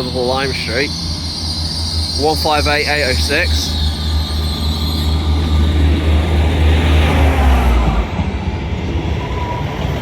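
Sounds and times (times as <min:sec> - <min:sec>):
diesel train engine rumbling: 0:00.0 - 0:10.0.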